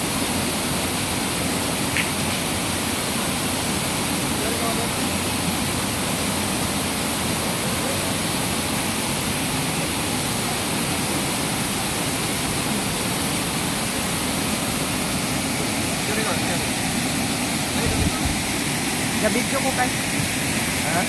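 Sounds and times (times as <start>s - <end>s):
waterfall pouring over rocks: 0.0s - 21.0s.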